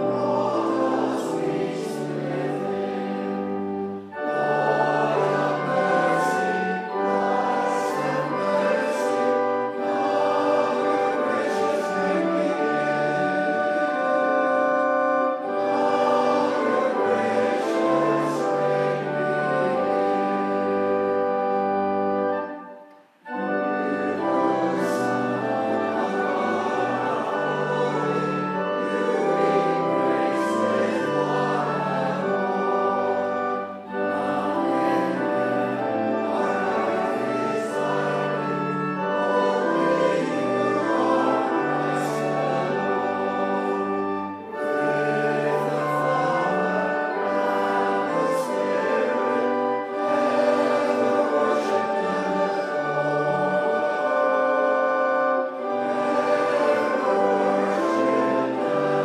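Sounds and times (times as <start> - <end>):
congregation singing a hymn: 0.0 - 59.0
organ accompaniment: 0.0 - 59.0.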